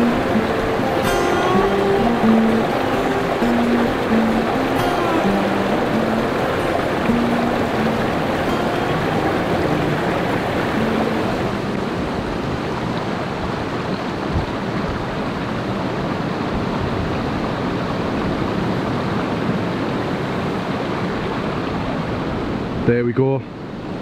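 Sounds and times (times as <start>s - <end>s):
stream running over rocks: 0.0s - 22.8s.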